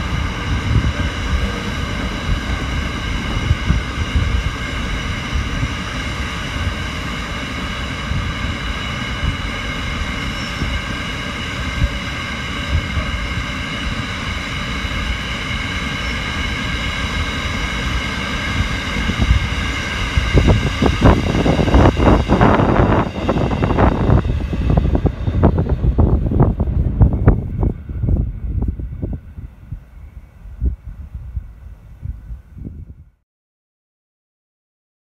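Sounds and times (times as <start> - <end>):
freight train rumbling past: 0.0 - 33.2
high-pitched whine: 0.0 - 33.2
wind buffeting microphone: 0.0 - 33.2.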